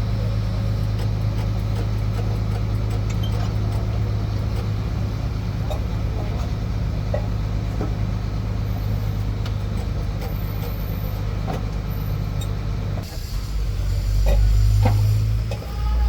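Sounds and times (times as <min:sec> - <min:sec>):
motor vehicle engine running: 0:00.0 - 0:16.0.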